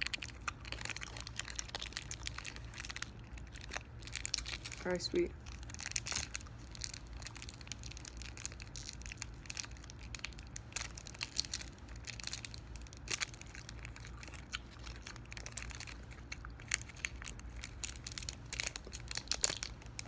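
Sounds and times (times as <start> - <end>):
plastic wrapper crinkling: 0.0 - 20.0.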